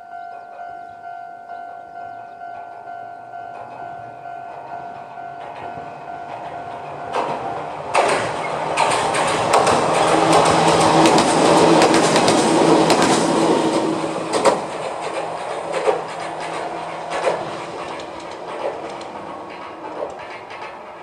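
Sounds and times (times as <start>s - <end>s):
electric train running past: 0.0s - 21.0s
wheel clacks over rail joints: 3.5s - 21.0s.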